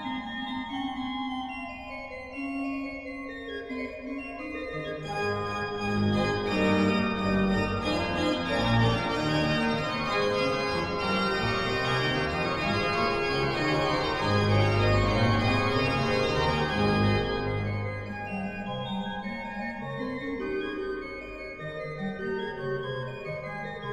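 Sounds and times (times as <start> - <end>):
organ playing chords: 0.0 - 23.9.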